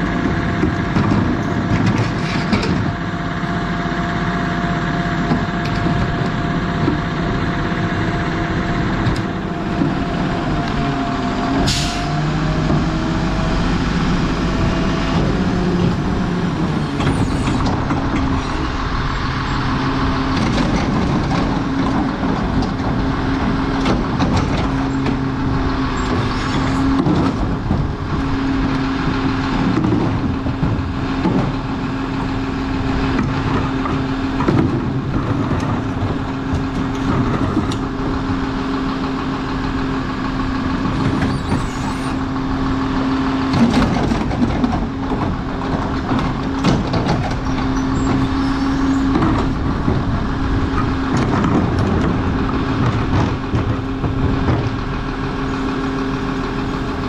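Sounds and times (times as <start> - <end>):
garbage truck hydraulics whining: 0.1 - 57.0.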